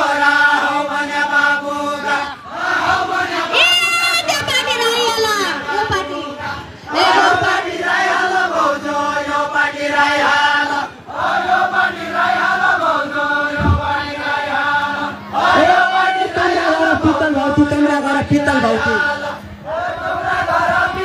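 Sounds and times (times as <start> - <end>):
group of voices chanting: 0.0 - 4.5, 5.2 - 21.0.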